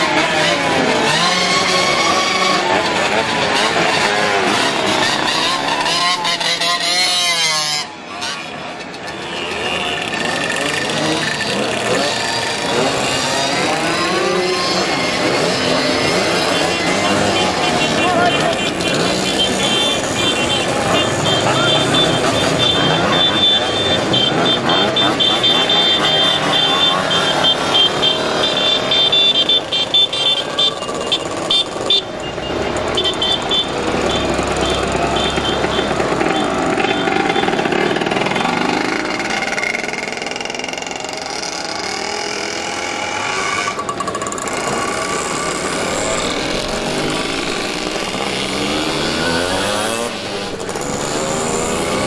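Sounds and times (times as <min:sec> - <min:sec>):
motorcycles revving past: 0:00.0 - 0:08.0, 0:09.8 - 0:29.1, 0:30.9 - 0:52.0.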